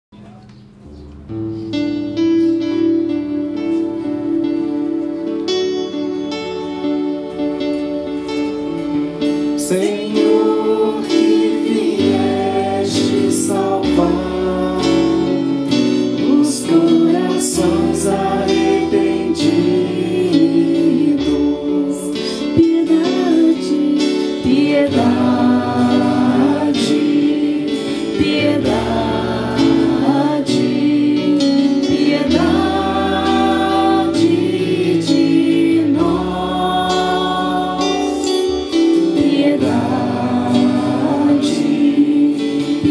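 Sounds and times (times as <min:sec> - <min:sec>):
instrumental accompaniment: 0:00.1 - 0:42.9
choir singing: 0:02.5 - 0:42.9.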